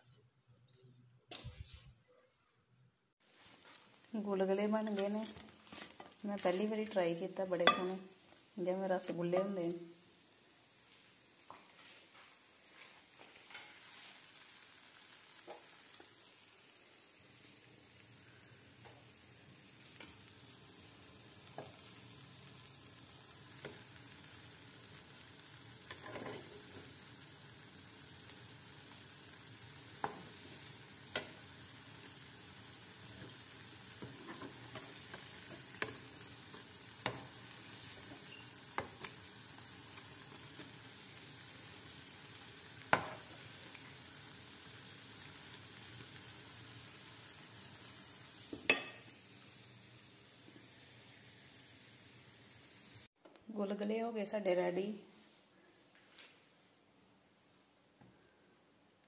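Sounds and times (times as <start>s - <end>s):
food deep-frying in hot oil: 3.3s - 53.2s.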